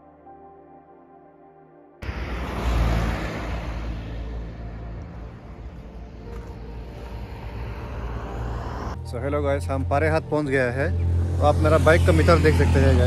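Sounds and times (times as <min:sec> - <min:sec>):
soft music: 0:00.0 - 0:02.0, 0:03.6 - 0:13.0.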